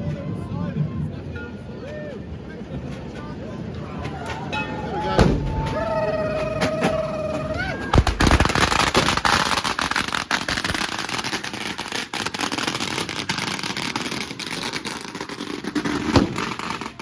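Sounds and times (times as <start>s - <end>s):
firecrackers crackling: 2.1s - 17.0s.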